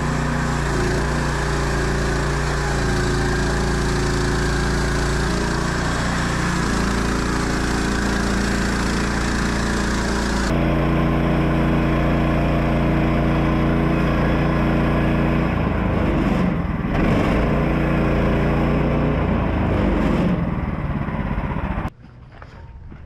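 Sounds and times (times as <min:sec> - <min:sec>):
sawmill engine sawing log: 0:00.0 - 0:21.9.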